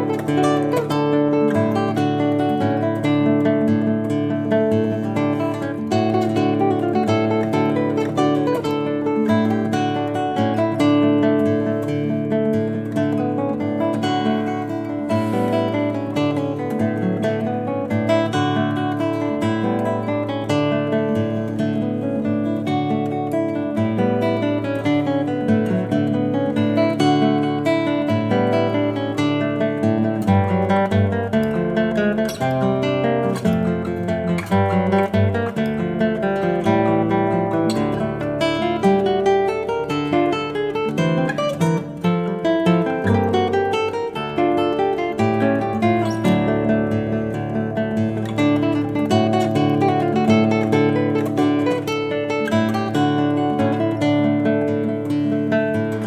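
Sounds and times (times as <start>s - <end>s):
classical guitar playing: 0.0s - 56.0s.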